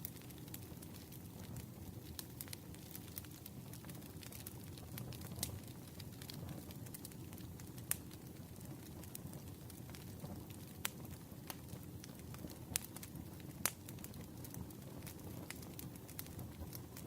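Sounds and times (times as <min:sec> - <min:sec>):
campfire rumbling: 0:00.0 - 0:17.0
fire crackling and popping: 0:00.0 - 0:17.0.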